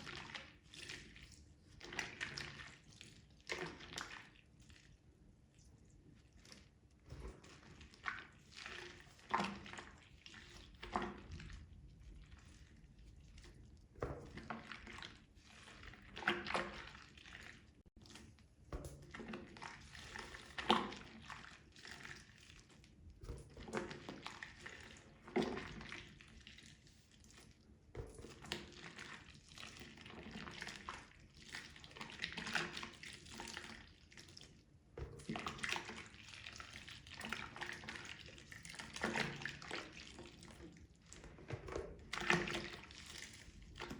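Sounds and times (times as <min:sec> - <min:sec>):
wet sponge squeezes: 0:00.0 - 0:43.9.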